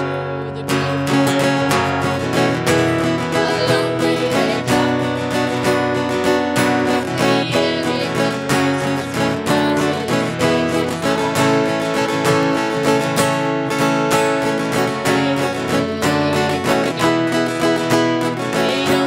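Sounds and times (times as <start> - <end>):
woman singing: 0.0 - 13.4, 14.1 - 19.0
acoustic guitar strumming: 0.0 - 19.0.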